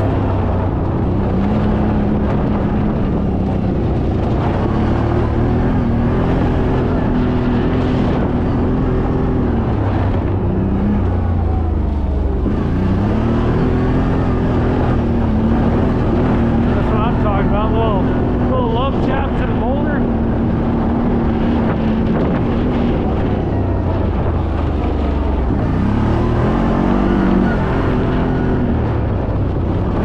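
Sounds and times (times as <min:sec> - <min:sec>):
engine running under load: 0:00.0 - 0:30.0.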